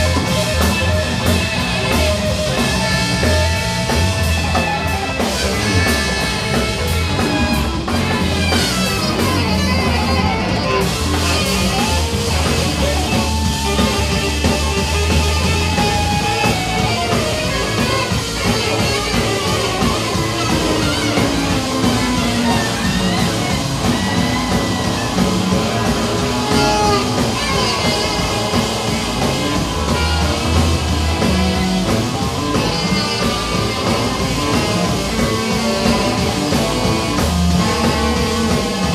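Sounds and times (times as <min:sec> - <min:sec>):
drum kit: 0:00.0 - 0:38.9
electric bass: 0:00.0 - 0:38.9
electric guitar: 0:00.0 - 0:38.9.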